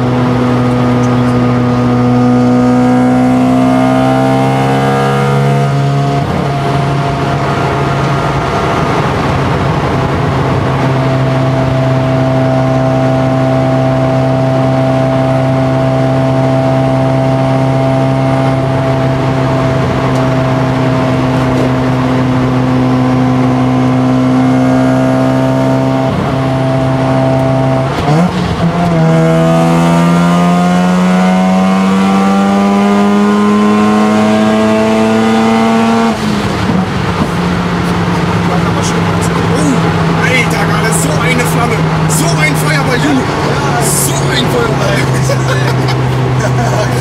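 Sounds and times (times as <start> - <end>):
car engine droning from inside cabin: 0.0 - 47.0.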